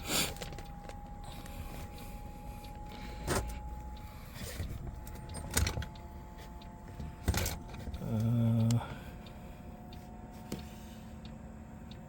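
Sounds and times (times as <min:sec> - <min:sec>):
heater blower whine and hum: 0:00.0 - 0:12.0.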